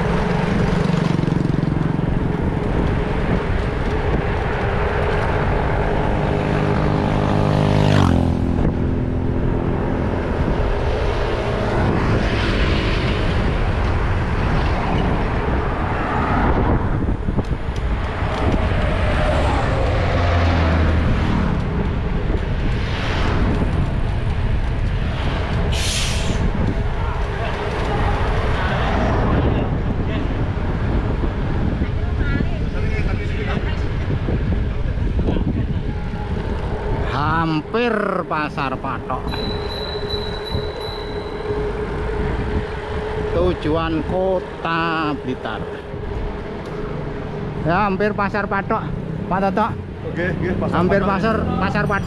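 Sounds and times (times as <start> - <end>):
motorbike engines passing: 0.0 - 52.0
wind rumbling on microphone: 0.0 - 52.0.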